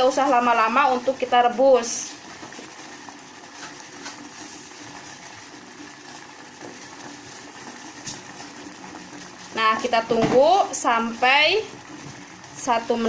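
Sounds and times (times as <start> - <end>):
pot of water boiling: 0.0 - 13.0.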